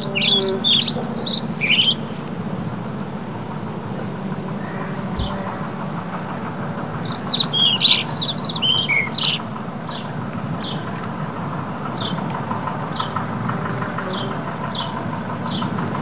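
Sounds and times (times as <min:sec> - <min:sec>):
birds chirping and twittering: 0:00.0 - 0:16.0
low background noise: 0:00.0 - 0:16.0.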